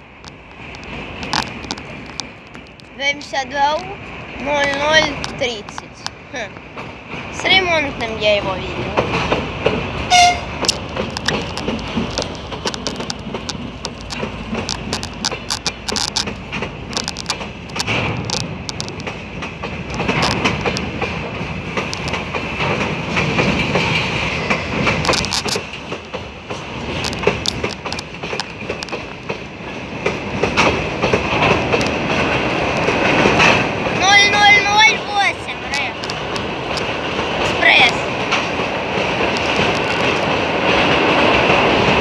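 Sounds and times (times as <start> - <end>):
clickety-clack over rail joints: 0.0 - 42.0
train wheels rumbling: 0.0 - 42.0.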